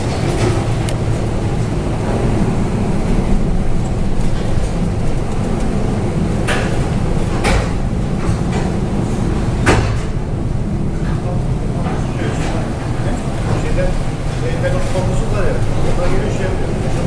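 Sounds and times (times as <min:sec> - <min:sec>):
heavy storm rumble: 0:00.0 - 0:17.0.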